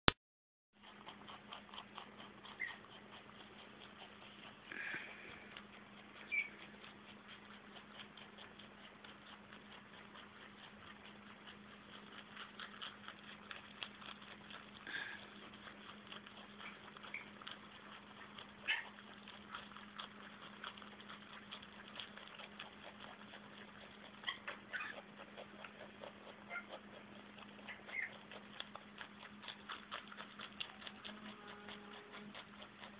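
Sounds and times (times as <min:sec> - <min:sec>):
rabbit chewing crisp crunches: 0:00.8 - 0:32.9.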